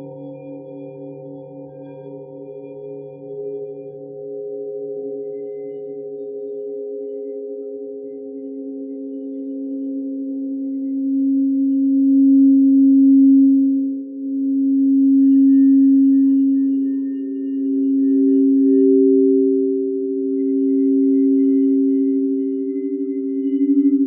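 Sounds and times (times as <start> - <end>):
singing bowls ringing: 0.0 - 13.1, 14.4 - 24.0.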